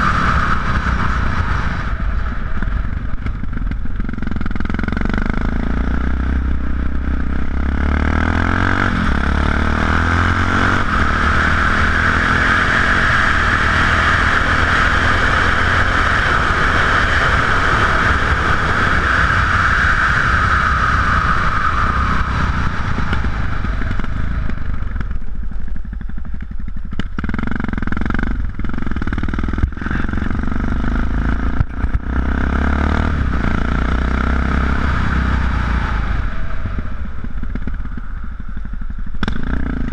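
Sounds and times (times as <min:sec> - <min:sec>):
strong rushing noise: 0:00.0 - 0:26.3, 0:27.6 - 0:39.2
motorcycle engine running: 0:00.0 - 0:39.9.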